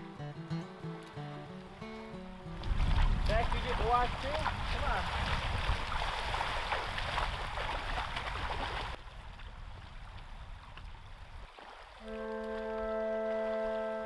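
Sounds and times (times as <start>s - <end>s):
water splashing while wading: 1.6s - 14.0s.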